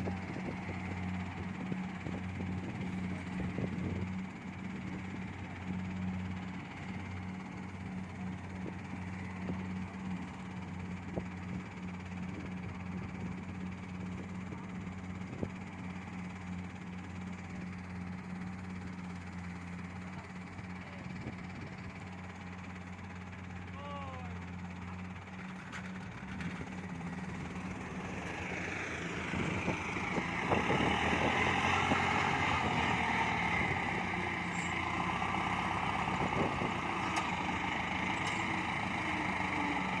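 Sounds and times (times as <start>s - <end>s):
combine harvesters running: 0.0s - 40.0s.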